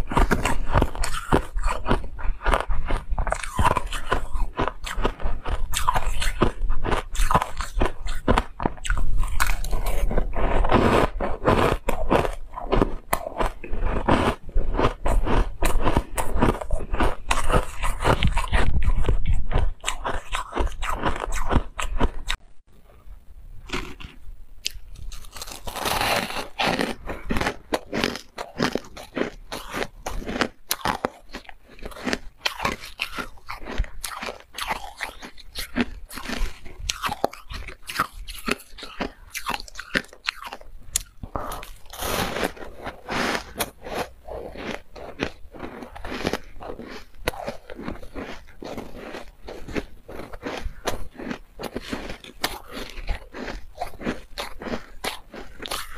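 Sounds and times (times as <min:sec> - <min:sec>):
person crunching ice: 0:00.0 - 0:22.4, 0:23.7 - 0:55.9.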